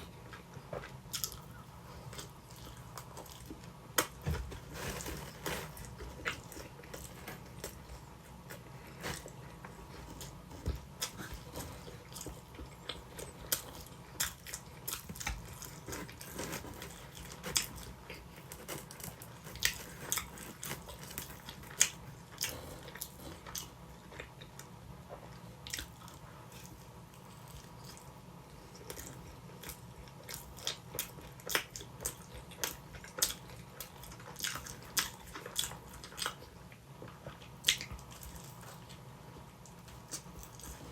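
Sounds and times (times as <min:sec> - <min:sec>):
person chewing and crunching: 0:00.0 - 0:40.9.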